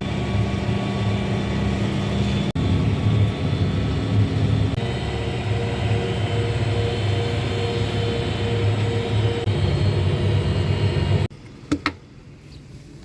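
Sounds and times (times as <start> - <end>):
tractor engine running under load: 0.0 - 11.3.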